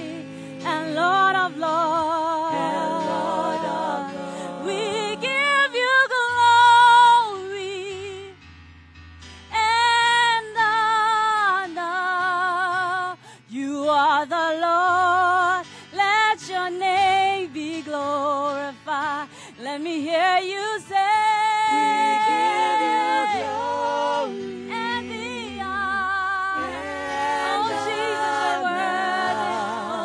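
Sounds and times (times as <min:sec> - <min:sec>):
woman singing worship song: 0:00.0 - 0:08.4, 0:09.5 - 0:30.0.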